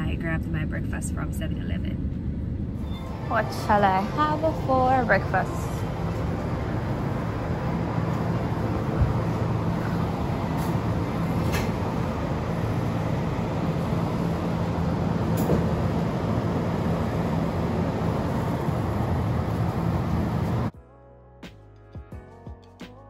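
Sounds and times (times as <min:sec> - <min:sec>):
refrigerator hum and rushing: 0:00.0 - 0:20.7.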